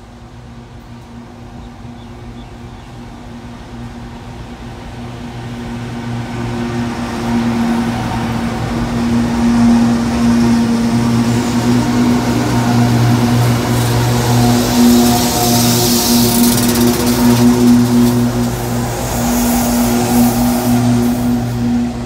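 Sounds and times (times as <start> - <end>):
locomotive engines droning: 0.0 - 22.0.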